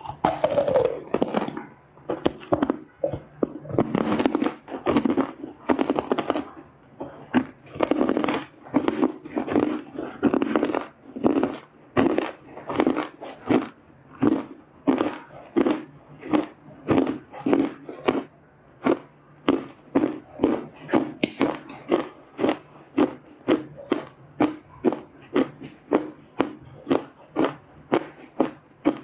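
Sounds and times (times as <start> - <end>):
clay being chewed crunching: 0.0 - 29.0.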